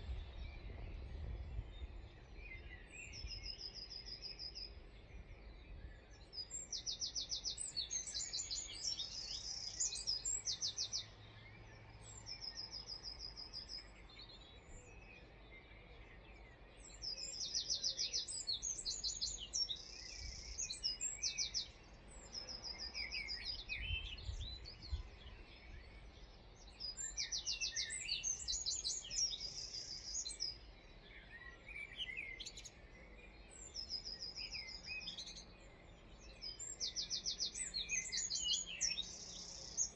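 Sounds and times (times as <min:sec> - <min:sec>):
low outdoor background: 0:00.0 - 0:39.9
songbird singing high song: 0:00.0 - 0:39.9.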